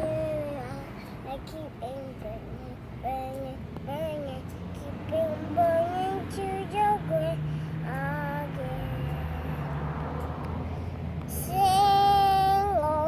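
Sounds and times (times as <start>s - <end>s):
child singing: 0.0s - 9.5s, 11.3s - 13.0s.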